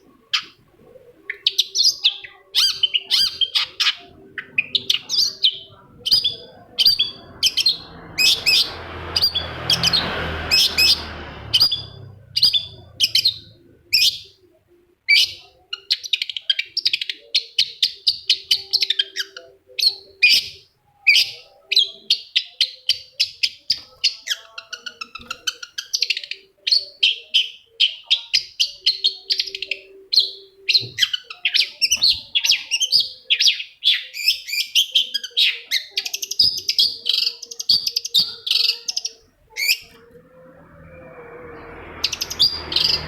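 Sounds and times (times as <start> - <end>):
bird chattering and chirping: 1.3 - 14.3, 15.1 - 40.0.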